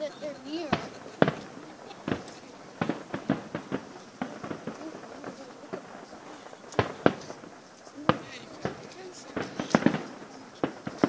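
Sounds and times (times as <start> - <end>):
distant fireworks exploding: 0.0 - 11.0.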